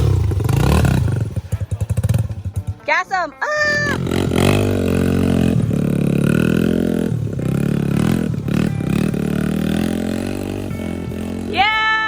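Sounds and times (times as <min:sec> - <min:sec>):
dirt bike engine revving: 0:00.0 - 0:03.0, 0:03.6 - 0:11.8.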